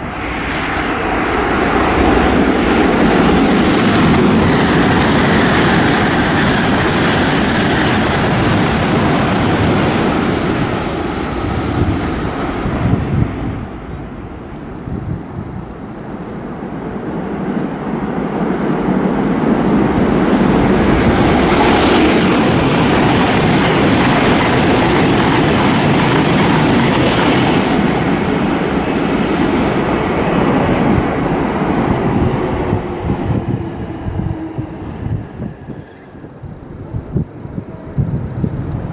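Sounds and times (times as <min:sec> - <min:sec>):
high-speed train rushing past: 0:00.0 - 0:38.9.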